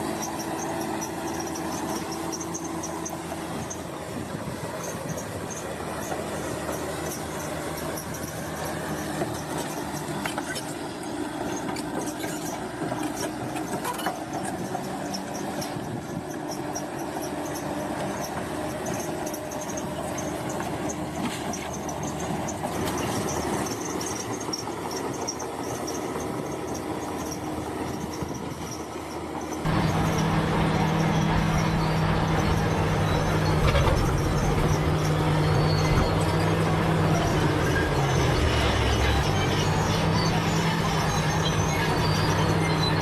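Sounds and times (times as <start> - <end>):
diesel engine under load: 0.0 - 43.0
steel tracks squealing and clanking: 0.0 - 43.0.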